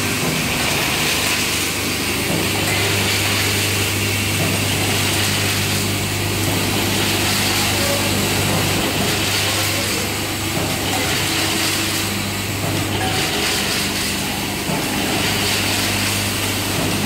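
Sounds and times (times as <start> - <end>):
low machine hum: 0.0 - 17.0
packing machine clatter and hiss: 0.0 - 17.0.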